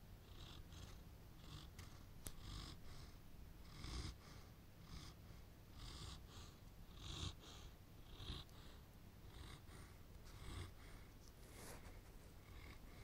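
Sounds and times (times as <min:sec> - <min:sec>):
dog snoring: 0:00.2 - 0:11.0, 0:12.4 - 0:13.0.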